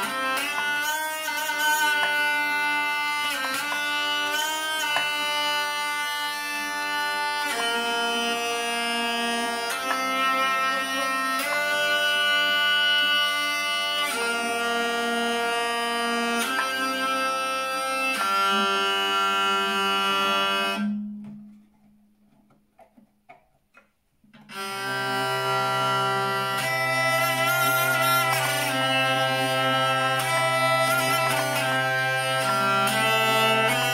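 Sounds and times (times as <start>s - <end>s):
hurdy-gurdy melody with drones: 0.0s - 21.1s, 24.5s - 33.9s.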